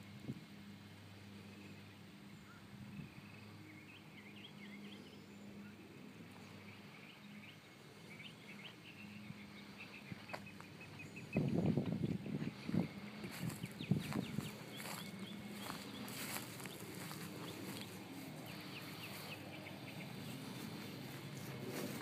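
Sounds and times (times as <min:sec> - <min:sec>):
small birds chirping: 0:01.3 - 0:22.0.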